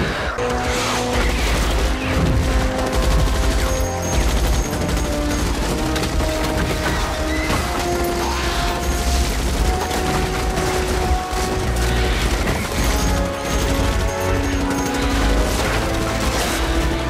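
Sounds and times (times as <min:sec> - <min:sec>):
orchestral film score: 0:00.0 - 0:17.0.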